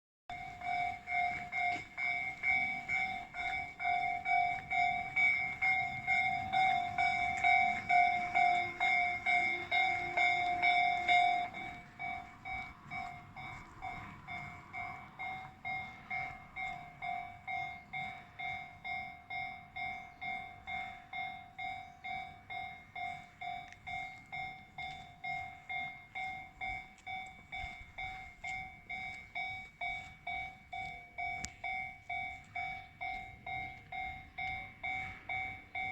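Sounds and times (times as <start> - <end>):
level-crossing warning bell: 0.3 - 35.9.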